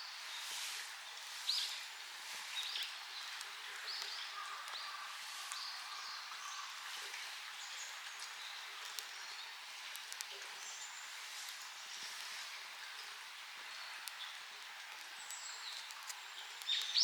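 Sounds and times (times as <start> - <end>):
faint steady hiss: 0.0 - 17.0
small birds calling: 2.6 - 17.0.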